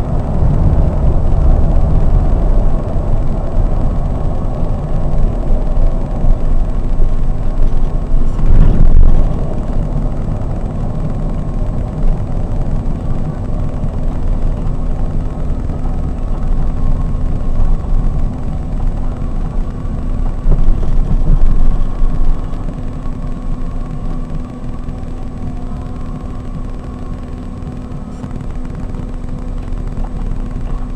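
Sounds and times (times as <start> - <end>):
coach engine and road rumble: 0.0 - 30.9.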